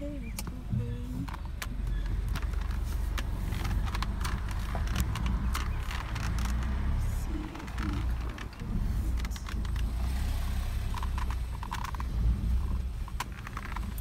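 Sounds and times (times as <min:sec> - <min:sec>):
car engine and tyre rumble: 0:00.0 - 0:14.0
small clicks and ticks: 0:00.1 - 0:14.0.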